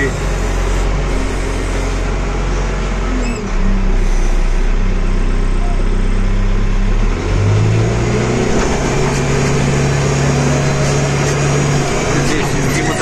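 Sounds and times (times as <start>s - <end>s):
backhoe diesel engine revving: 0.0s - 13.0s.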